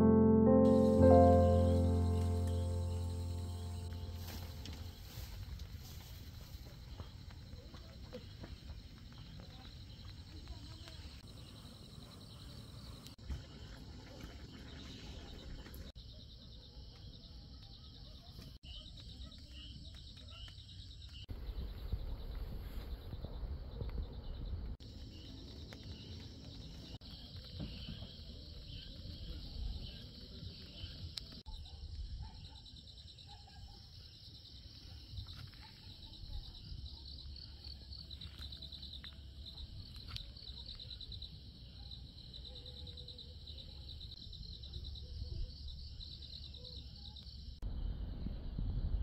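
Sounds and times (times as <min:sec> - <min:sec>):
insects chirping in trills: 0:00.0 - 0:22.3, 0:24.8 - 0:49.0.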